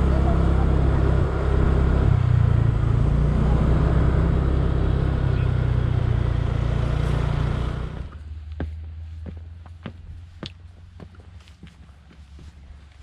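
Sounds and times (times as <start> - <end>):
scooter engine rumbling: 0.0 - 12.9
road noise: 0.0 - 13.0
wind: 0.0 - 13.0.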